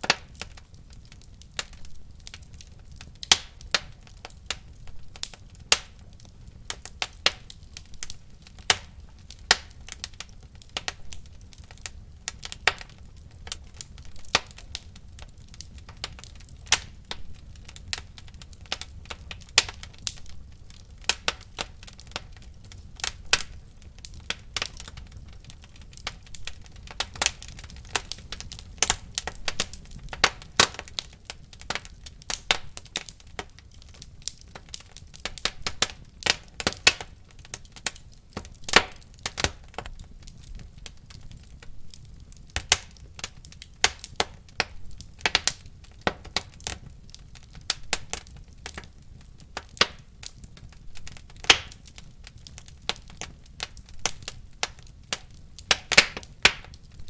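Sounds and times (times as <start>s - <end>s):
low rumble of burning fire: 0.0s - 57.0s
wood fire crackling and popping: 0.0s - 57.0s.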